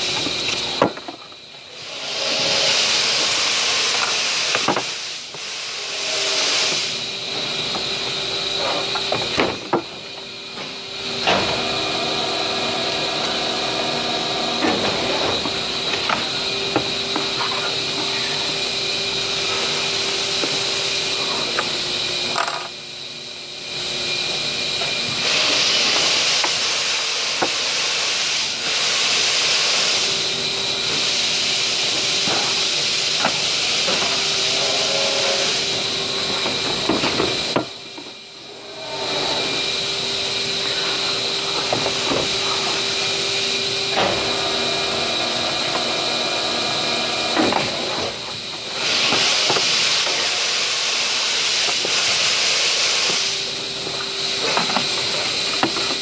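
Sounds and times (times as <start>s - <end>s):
loud hiss with high whine: 0.0s - 56.0s.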